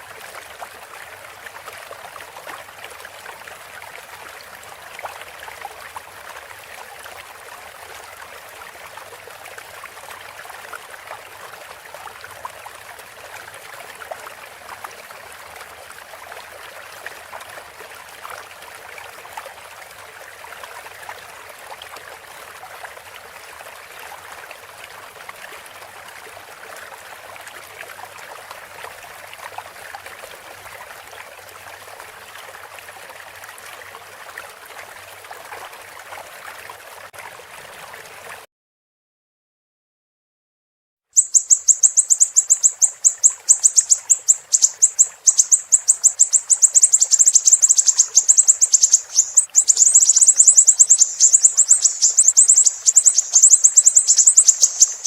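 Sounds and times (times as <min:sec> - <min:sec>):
stream trickling: 0:00.0 - 0:38.5, 0:41.2 - 0:55.0.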